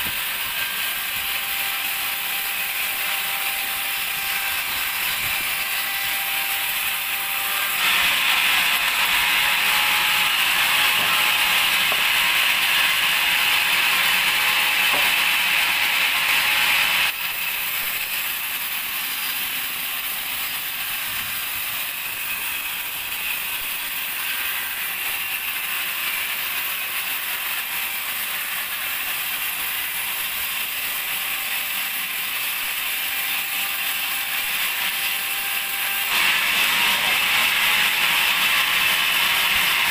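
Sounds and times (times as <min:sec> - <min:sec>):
band saw rasping through log: 0:00.0 - 0:39.9.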